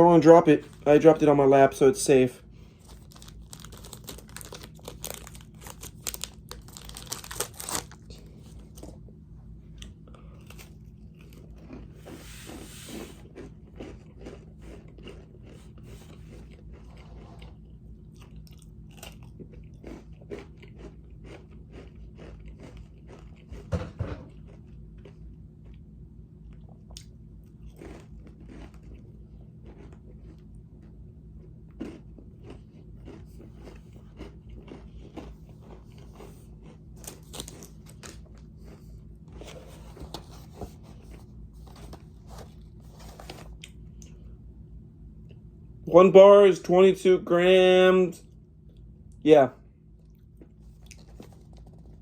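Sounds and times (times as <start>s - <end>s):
faint low hum: 0.0s - 52.0s
crunchy chewing: 2.6s - 44.3s, 50.0s - 52.0s.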